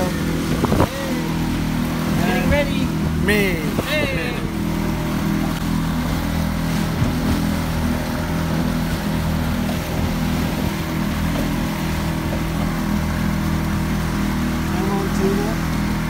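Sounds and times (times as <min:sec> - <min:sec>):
boat engine droning: 0:00.0 - 0:16.0
rushing water: 0:00.0 - 0:16.0
wind: 0:00.0 - 0:16.0.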